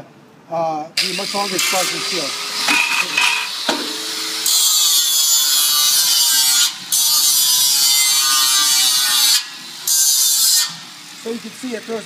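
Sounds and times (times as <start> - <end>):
angle grinder grinding metal: 1.0 - 11.4.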